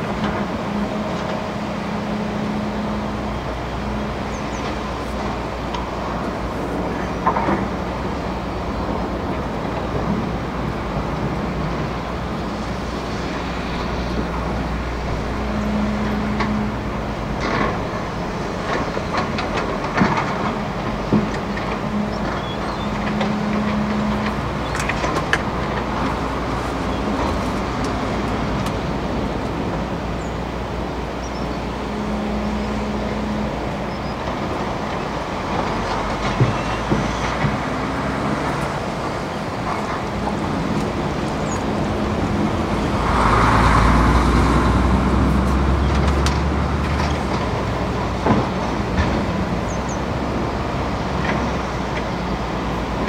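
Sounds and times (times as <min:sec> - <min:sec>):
excavator diesel engine working: 0:00.0 - 0:53.0
rushing river water: 0:00.0 - 0:53.0.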